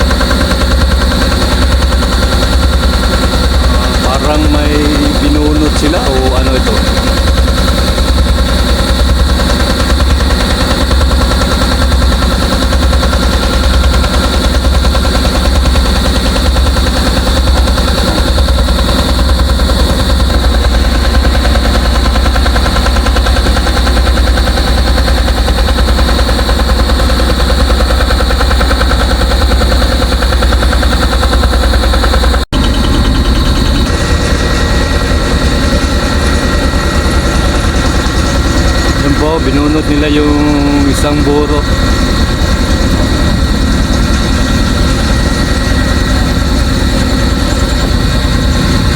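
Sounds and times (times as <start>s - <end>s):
heavy machinery rattling and rumbling: 0.0s - 48.9s.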